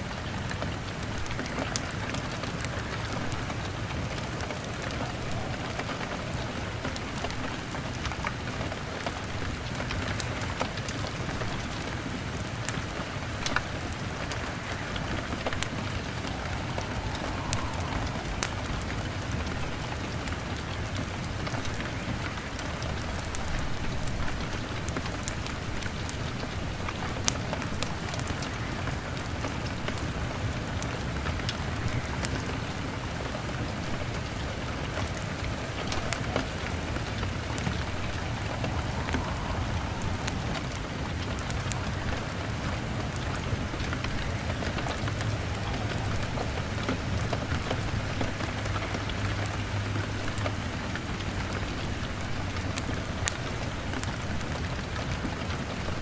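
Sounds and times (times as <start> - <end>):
crackling log fire: 0.0 - 56.0
rain hitting window pane: 0.0 - 56.0.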